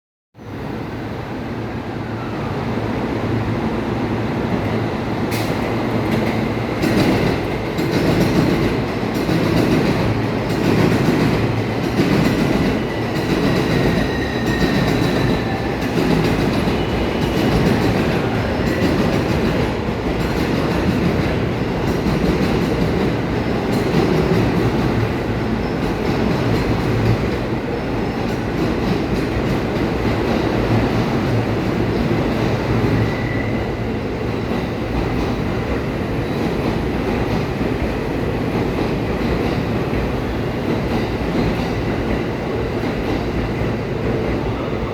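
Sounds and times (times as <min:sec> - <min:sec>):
electric train running rumble: 0:02.2 - 0:44.9.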